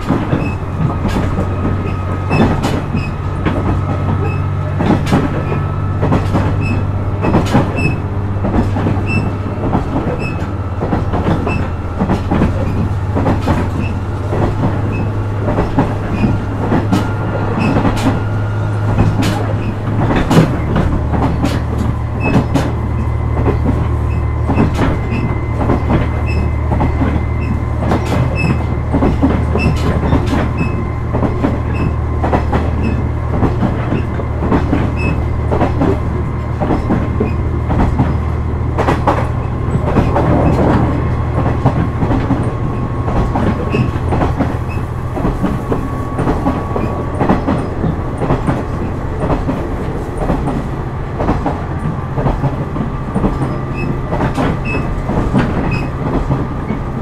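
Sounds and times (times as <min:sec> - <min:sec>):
diesel engine low drone: 0:00.0 - 0:57.0
train wheels clacking over rail joints: 0:00.0 - 0:57.0.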